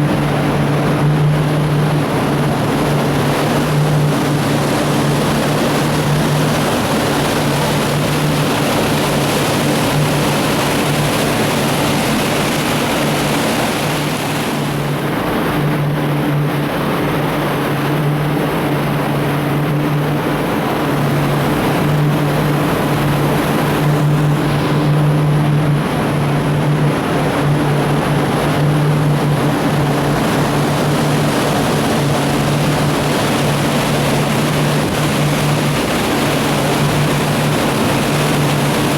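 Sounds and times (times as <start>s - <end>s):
boat engine humming: 0.0s - 38.9s
rushing water: 0.0s - 38.9s
wind: 0.0s - 38.9s.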